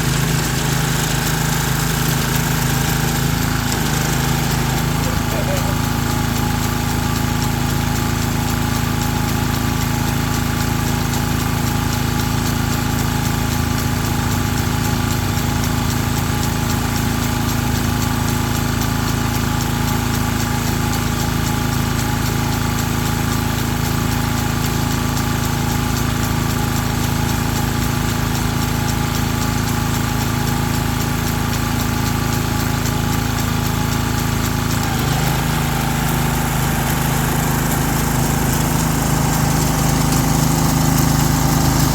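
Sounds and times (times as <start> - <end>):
core aerator engine running: 0.0 - 41.9.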